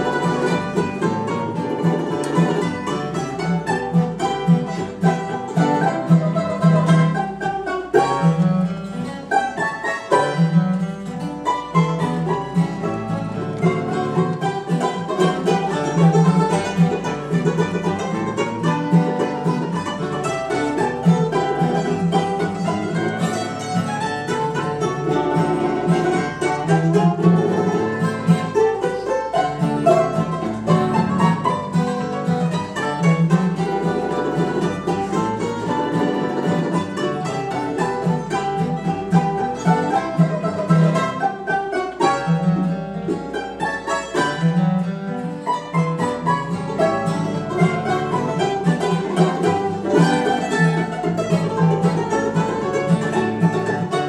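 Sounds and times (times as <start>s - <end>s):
acoustic guitar accompaniment: 0.0s - 54.0s
mandolin accompaniment: 0.0s - 54.0s
picked mandolin-banjo melody: 0.0s - 54.0s.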